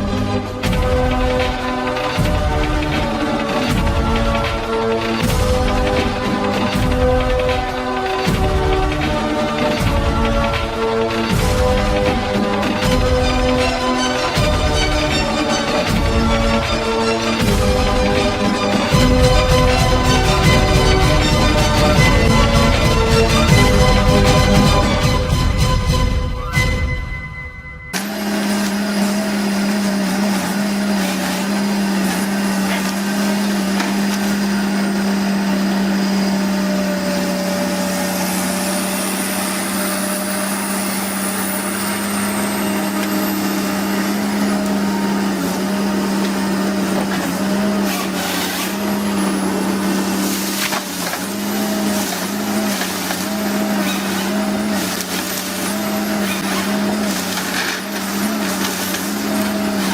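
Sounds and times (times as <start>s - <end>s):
woodworking machine cutting wood: 0.0s - 27.3s, 27.9s - 59.9s.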